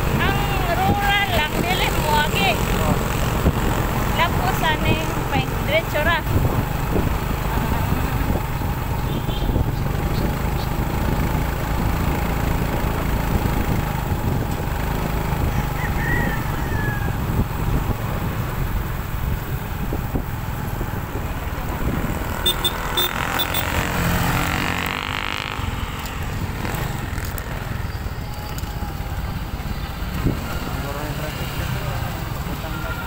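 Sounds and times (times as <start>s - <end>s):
motorcycle engine running: 0.0s - 33.0s
road noise: 0.0s - 33.0s.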